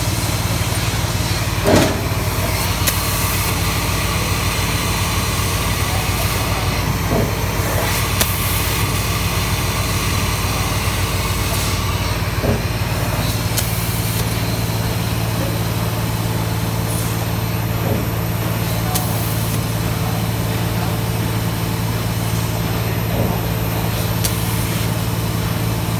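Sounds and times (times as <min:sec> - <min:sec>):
laser cutter machine hum: 0:00.0 - 0:25.9.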